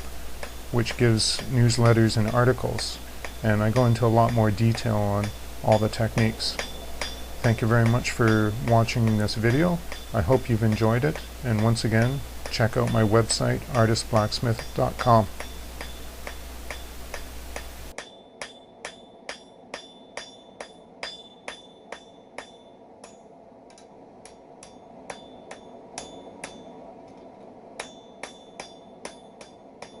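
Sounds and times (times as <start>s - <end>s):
hammer ringing on anvil: 0.4s - 23.2s, 24.6s - 26.8s, 27.8s - 30.0s.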